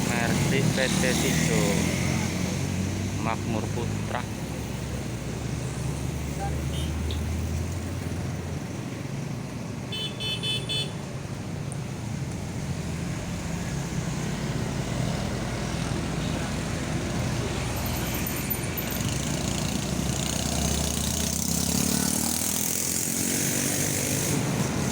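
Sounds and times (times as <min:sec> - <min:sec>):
vehicle engines passing: 0:00.0 - 0:24.9.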